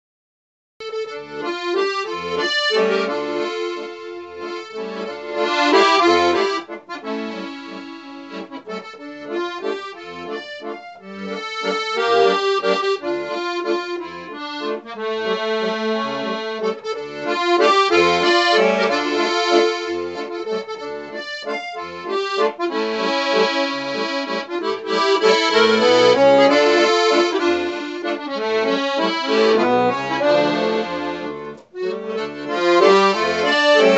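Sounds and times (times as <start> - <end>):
accordion playing a waltz: 0.8 - 33.9.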